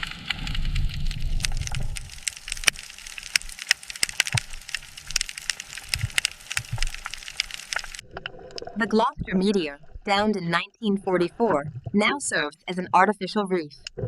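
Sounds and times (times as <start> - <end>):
dense crackling: 0.0 - 12.2.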